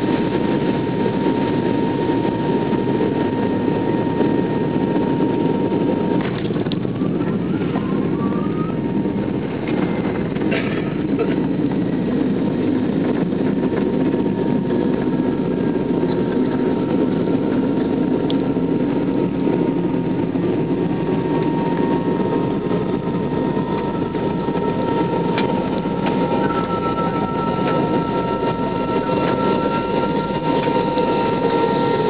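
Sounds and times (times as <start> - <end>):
jet engines rumbling: 0.0 - 32.0
thin steady whine: 0.0 - 32.0.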